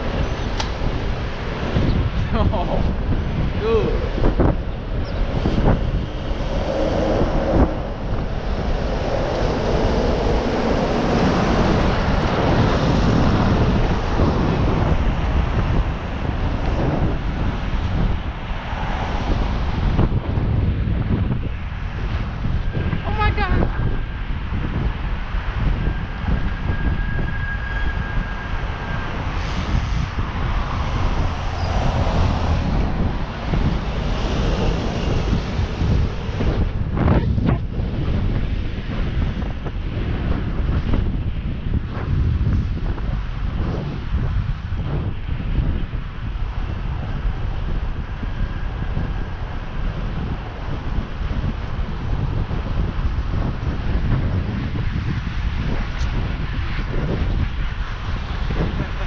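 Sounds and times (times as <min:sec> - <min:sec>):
road and traffic noise: 0:00.0 - 0:59.0
wind buffeting microphone: 0:00.0 - 0:59.0.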